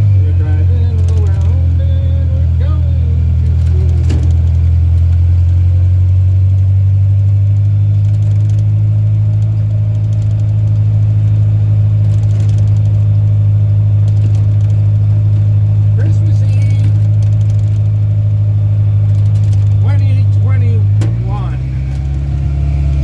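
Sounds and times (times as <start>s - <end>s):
truck engine droning: 0.0s - 23.0s.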